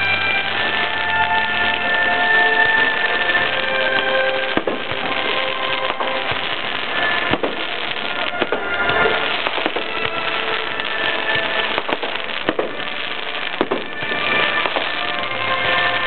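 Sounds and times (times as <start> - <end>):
firework shells bursting: 0.0 - 16.0
fireworks hissing and crackling: 0.0 - 16.0.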